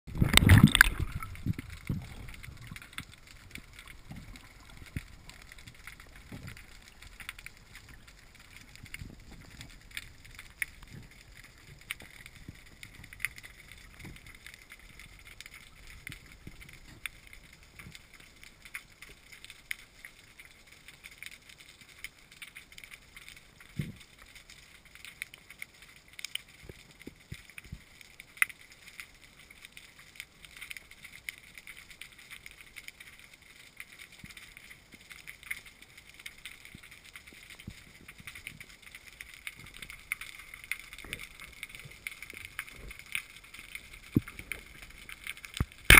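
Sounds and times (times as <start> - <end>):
underwater clicks and crackles: 0.1 - 45.9.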